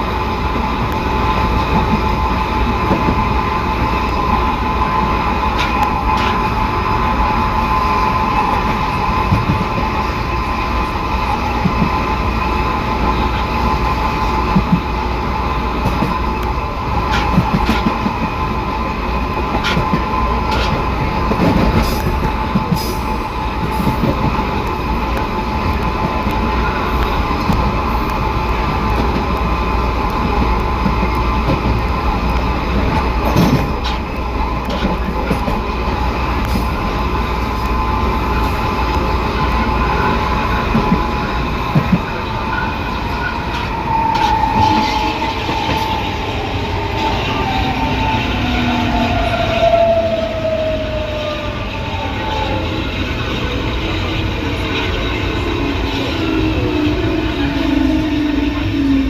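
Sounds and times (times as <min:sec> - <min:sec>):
wheels rumbling on rails: 0:00.0 - 0:59.0.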